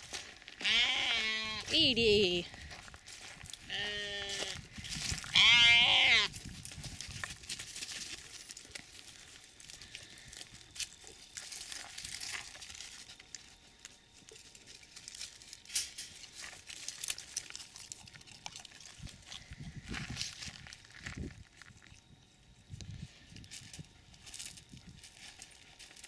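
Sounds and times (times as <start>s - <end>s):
sheep chewing dry straw: 0.0s - 22.1s, 23.1s - 26.0s.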